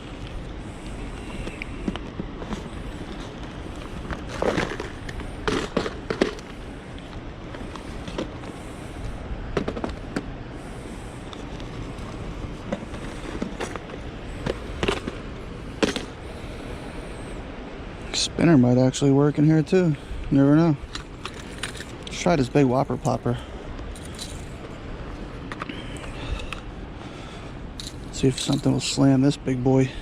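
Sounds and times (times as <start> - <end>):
river current: 0.0 - 9.5, 10.2 - 30.0
wind: 0.0 - 30.0.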